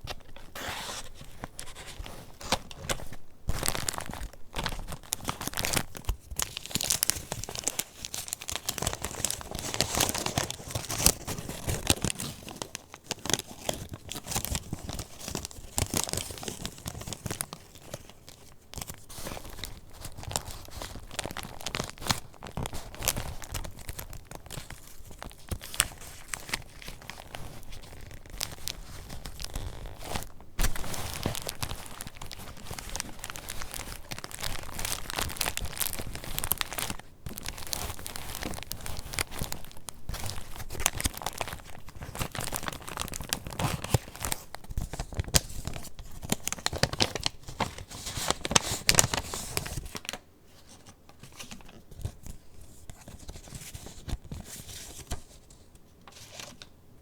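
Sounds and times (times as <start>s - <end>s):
paper pages rustling: 0.0s - 56.7s.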